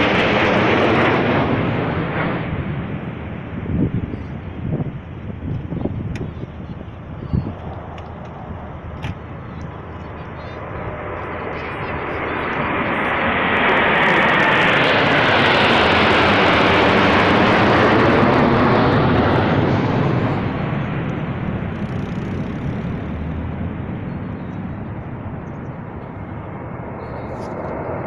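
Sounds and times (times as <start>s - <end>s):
jet fighters roaring overhead: 0.0s - 28.0s.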